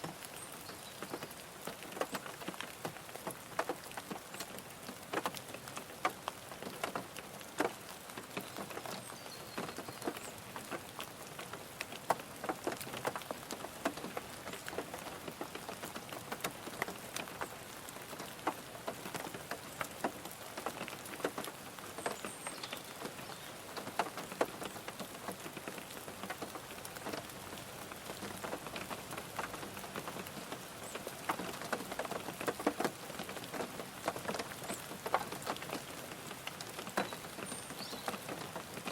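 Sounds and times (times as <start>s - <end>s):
rain on a car roof: 0.0s - 38.9s.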